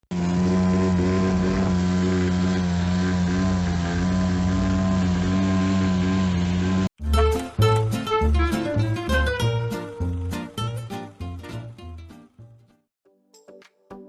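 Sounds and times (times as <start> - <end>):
engine humming steadily: 0.0 - 11.7.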